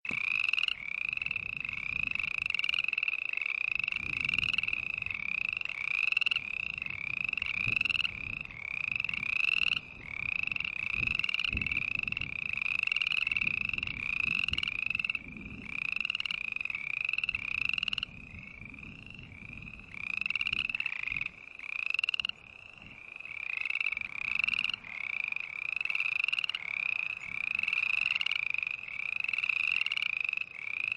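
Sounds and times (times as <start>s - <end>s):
frogs croaking: 0.1s - 30.9s.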